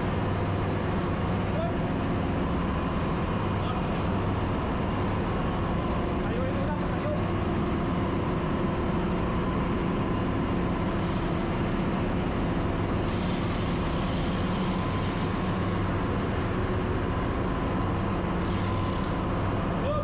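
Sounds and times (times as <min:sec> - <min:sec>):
engine room machinery droning: 0:00.0 - 0:20.0.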